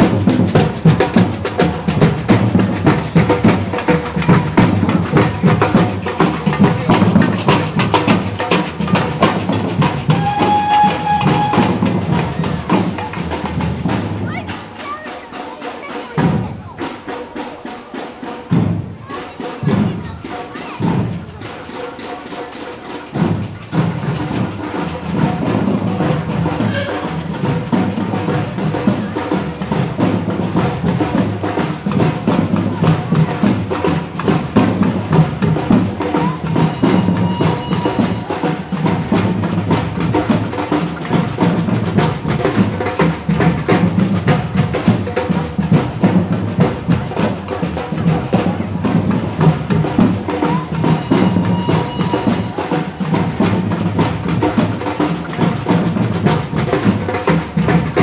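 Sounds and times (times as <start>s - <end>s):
percussion-led drum music: 0.0s - 58.0s.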